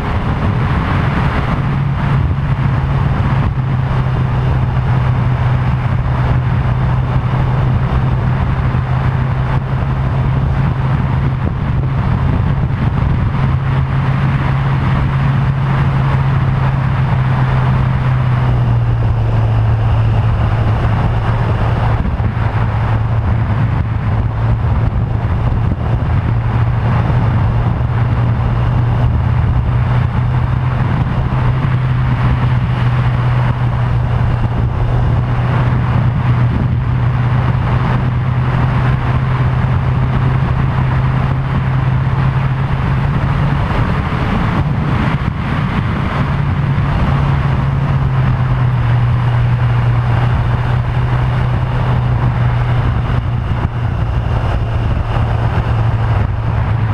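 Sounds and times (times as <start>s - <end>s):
motorcycle engine cruising: 0.0s - 56.9s
wind rushing over camera: 0.0s - 56.9s.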